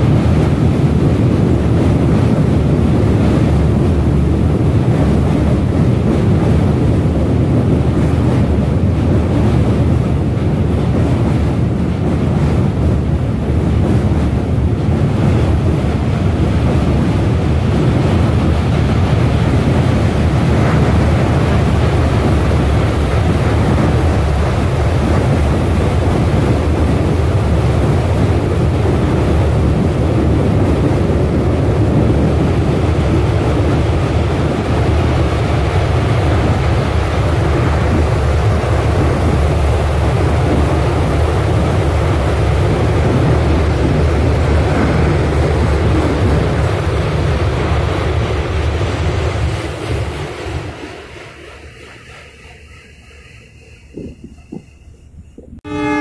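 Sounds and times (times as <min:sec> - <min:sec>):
train wheels rumbling on bridge: 0:00.0 - 0:56.0.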